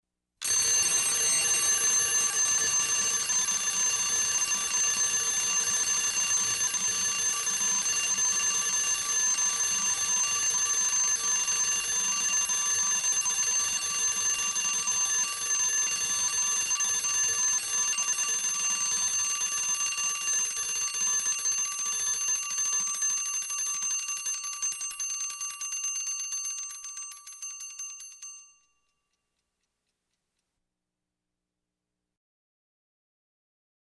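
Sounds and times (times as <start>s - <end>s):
alarm clock bell ringing: 0.4s - 28.9s.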